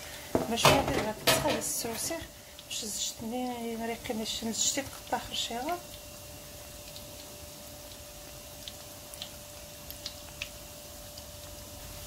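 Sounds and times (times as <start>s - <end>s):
dough sizzling in hot oil: 0.0s - 12.0s
faint steady hum: 0.0s - 12.0s.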